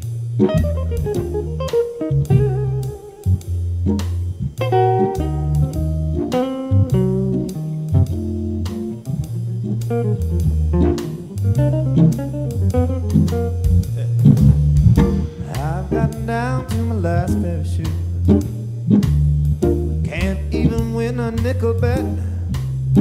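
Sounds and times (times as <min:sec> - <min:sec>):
drum kit with cymbals: 0:00.0 - 0:23.0
guitar lines: 0:00.0 - 0:23.0
organ bass notes and chords: 0:00.0 - 0:23.0.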